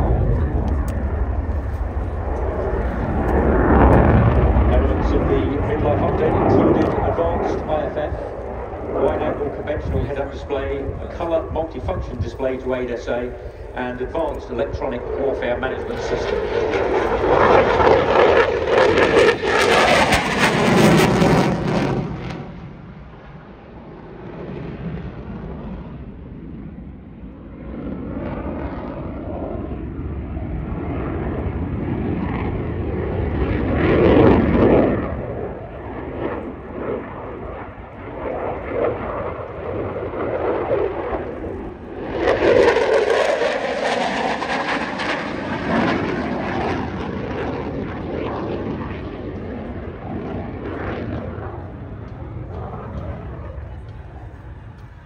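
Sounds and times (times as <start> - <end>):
fighter jet afterburner roar: 0.0 - 55.0.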